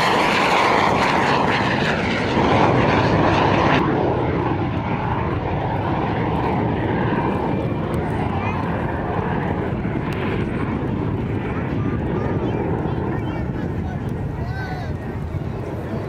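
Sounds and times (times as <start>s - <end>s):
jet engine roaring: 0.0s - 16.0s
jet passing whoosh: 0.0s - 16.0s.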